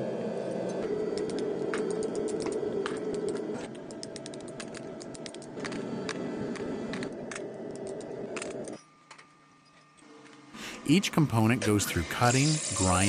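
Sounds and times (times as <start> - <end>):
machine rumble: 0.0 - 13.0.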